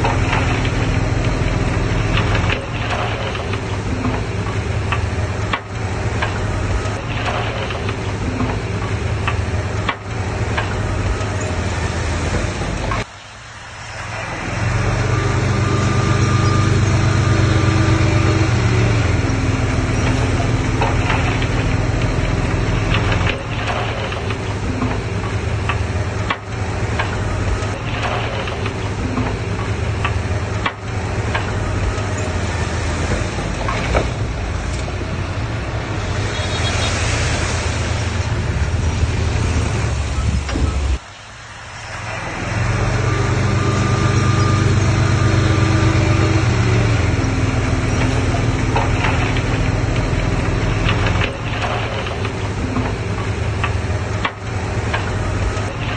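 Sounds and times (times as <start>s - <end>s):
diesel engines clattering: 0.0s - 55.9s.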